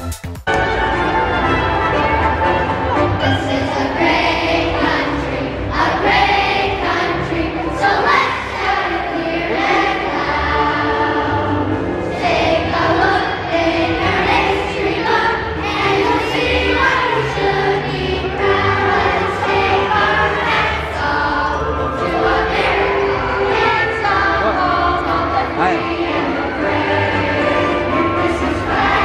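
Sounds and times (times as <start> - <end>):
children's choir singing: 0.5 - 29.0.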